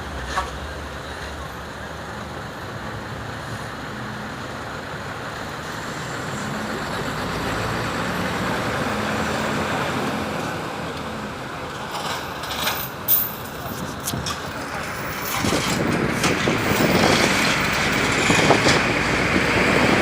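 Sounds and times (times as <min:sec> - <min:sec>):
highway traffic rushing: 0:00.0 - 0:20.0.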